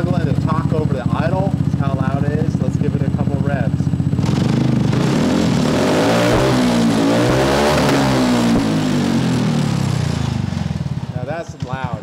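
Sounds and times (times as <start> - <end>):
scooter engine revving: 0.0 - 12.0.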